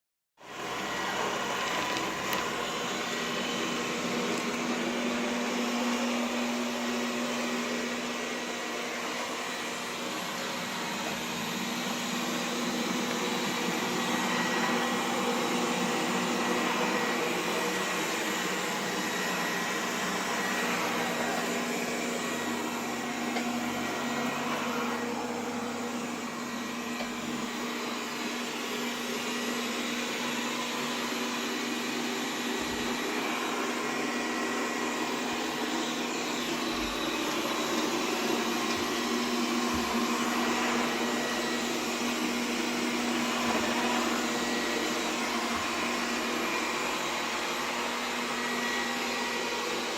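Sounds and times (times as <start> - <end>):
robot vacuum cleaner whirring: 0.4 - 49.9.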